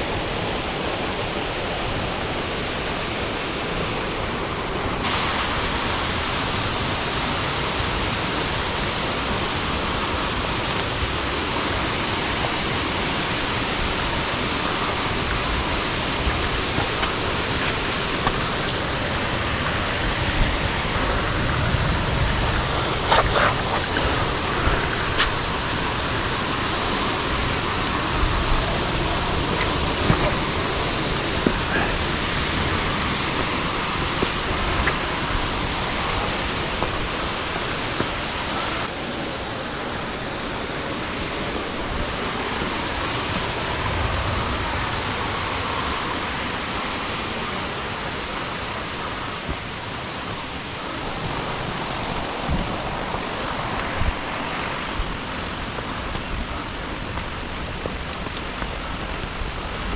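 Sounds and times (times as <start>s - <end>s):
heavy rain and cascading runoff: 0.0s - 59.9s.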